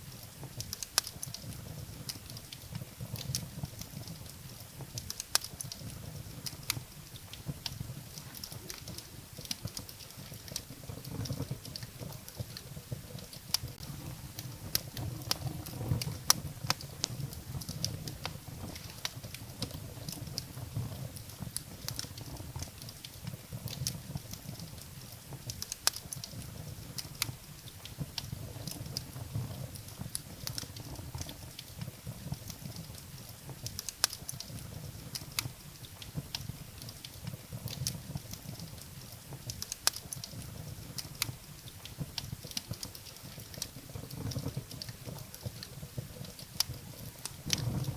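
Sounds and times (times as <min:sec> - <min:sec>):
firewood crackling and popping: 0:00.0 - 0:47.9
low rumble of flames: 0:00.0 - 0:47.9.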